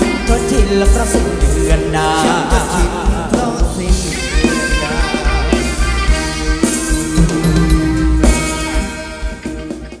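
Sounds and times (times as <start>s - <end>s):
drum kit beating: 0.0s - 10.0s
live band dance music: 0.0s - 10.0s.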